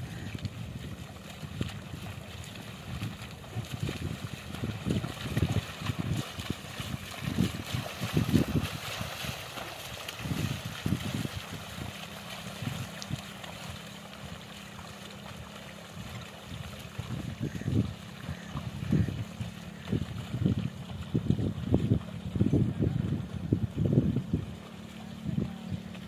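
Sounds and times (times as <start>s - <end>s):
muddy water sloshing and splashing: 0.0s - 26.0s.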